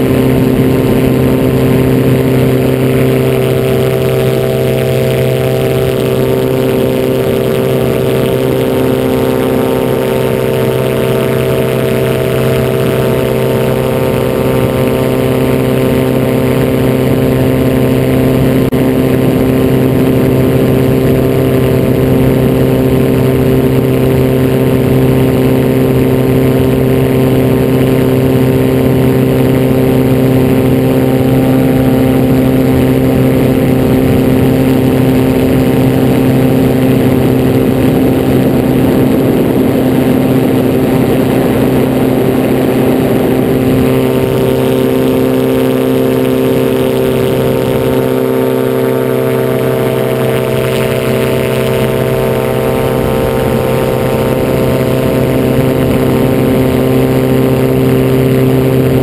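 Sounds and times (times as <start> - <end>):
gyroplane engine and propeller: 0.0 - 59.0.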